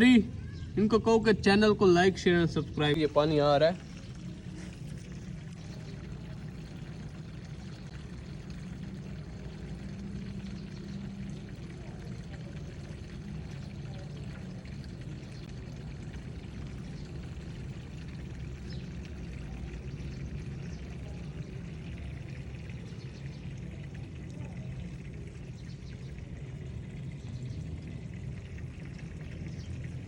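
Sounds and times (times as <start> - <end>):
water pouring from hose: 0.0 - 30.0.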